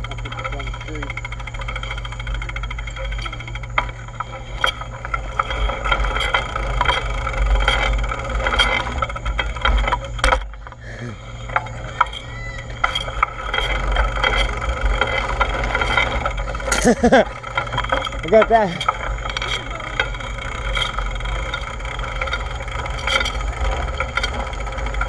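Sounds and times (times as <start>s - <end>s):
bicycle clicks and rattles: 0.0s - 25.0s.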